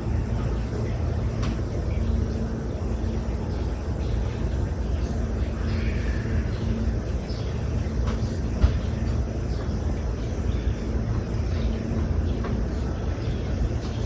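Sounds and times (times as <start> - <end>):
faint hum: 0.0 - 14.0
road traffic rumble: 0.0 - 14.0.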